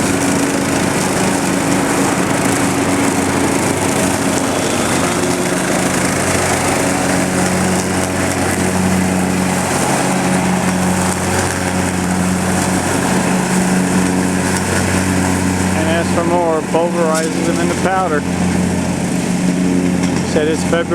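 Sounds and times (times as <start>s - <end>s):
lawn mower engine running: 0.0s - 20.9s.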